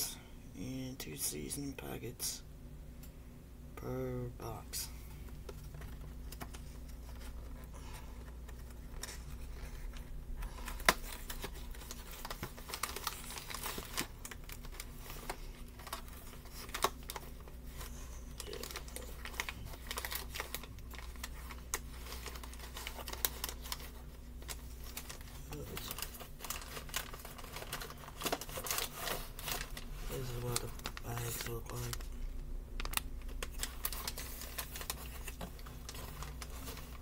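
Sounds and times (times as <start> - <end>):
steady low hum: 0.0 - 37.0
cardboard box and packets handled: 5.2 - 32.1, 32.8 - 37.0.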